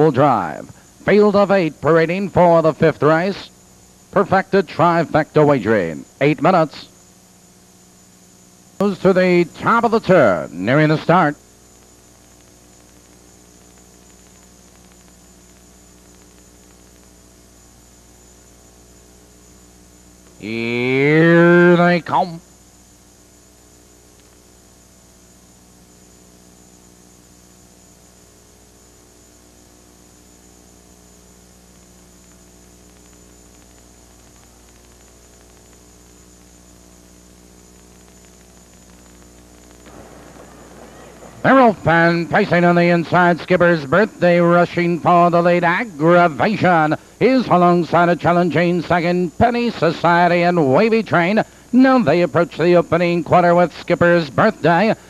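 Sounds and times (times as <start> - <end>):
recording hiss: 0.0 - 25.4, 26.0 - 55.0
electrical mains hum: 0.0 - 55.0.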